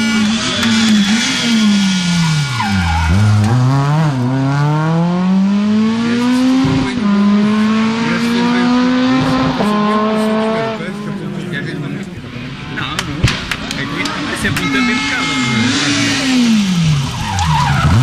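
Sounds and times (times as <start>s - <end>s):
rally car engine passing: 0.0s - 14.6s.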